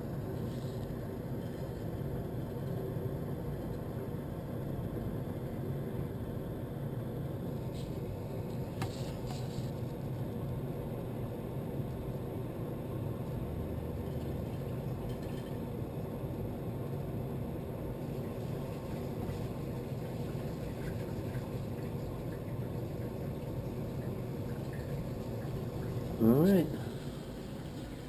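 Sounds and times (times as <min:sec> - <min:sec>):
low rumble of flame: 0:00.0 - 0:28.0
machine hum: 0:00.0 - 0:28.0.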